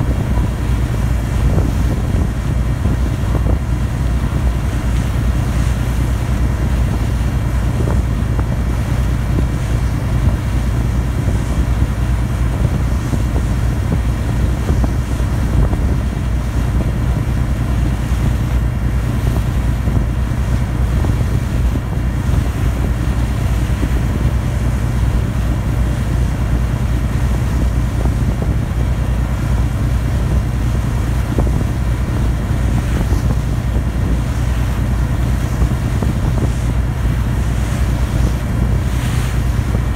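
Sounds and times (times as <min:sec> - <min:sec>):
ferry engine humming: 0:00.0 - 0:39.9
rushing water: 0:00.0 - 0:39.9
wind buffeting microphone: 0:00.0 - 0:39.9.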